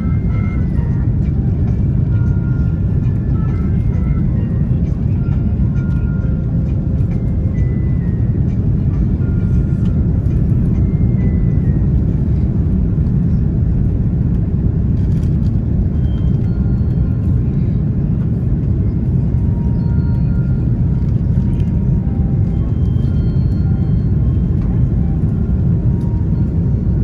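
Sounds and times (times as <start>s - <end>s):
airliner cabin roar: 0.0s - 27.0s.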